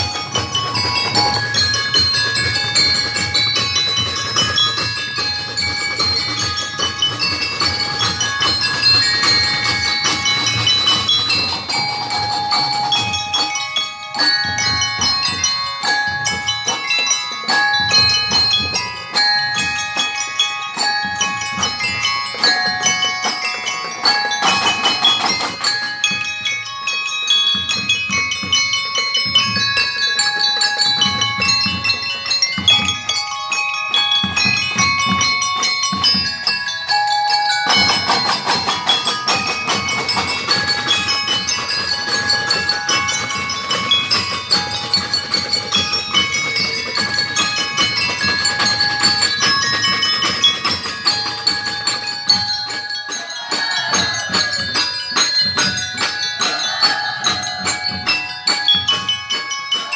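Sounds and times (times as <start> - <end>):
mallet keyboard melody: 0.0 - 59.9
marching drums: 0.0 - 59.9.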